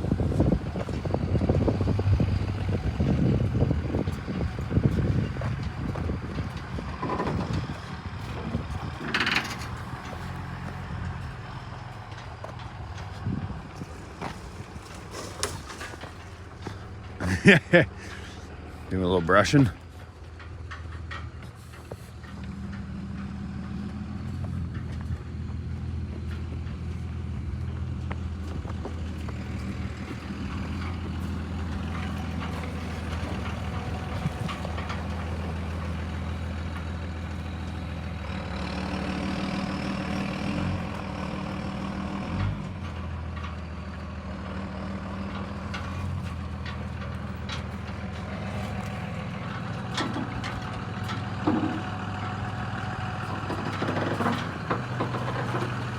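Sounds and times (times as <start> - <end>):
truck engine idling: 0.0 - 55.9.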